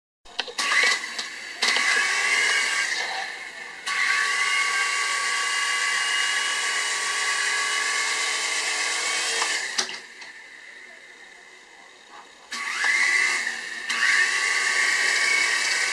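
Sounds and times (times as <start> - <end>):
toy helicopter motor whine: 0.6 - 10.9, 12.5 - 15.9.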